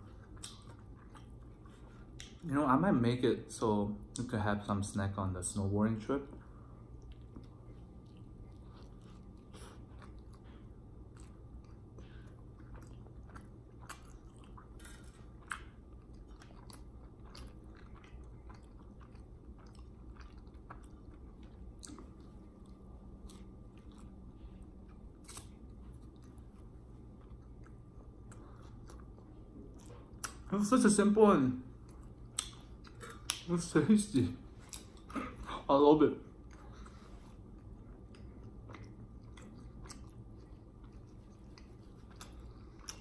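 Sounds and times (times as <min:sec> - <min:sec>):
chewing soft bread: 0:00.0 - 0:43.0.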